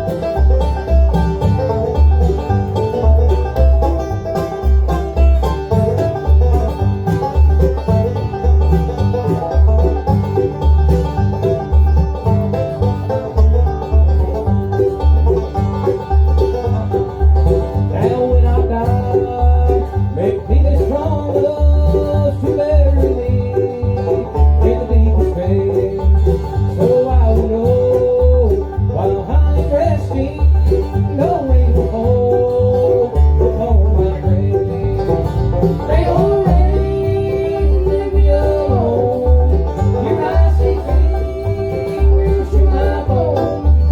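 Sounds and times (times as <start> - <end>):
bass steady beat: 0.0 - 43.9
bluegrass band playing: 0.0 - 43.9.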